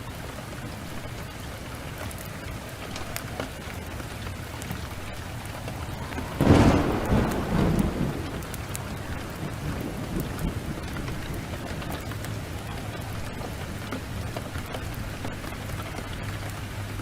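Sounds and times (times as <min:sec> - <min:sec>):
heavy rain: 0:00.0 - 0:17.0
thunder clap rumbling: 0:01.8 - 0:16.4.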